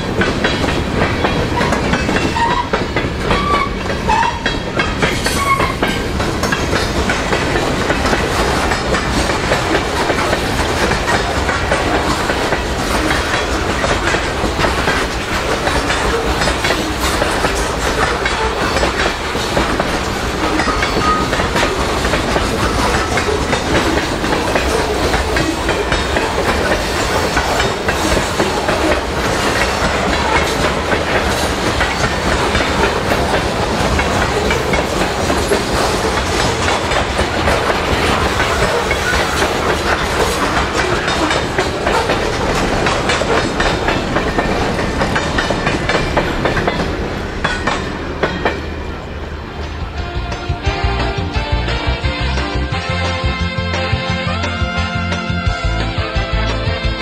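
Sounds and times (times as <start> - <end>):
train wheels clickety-clack on rails: 0.0 - 52.8.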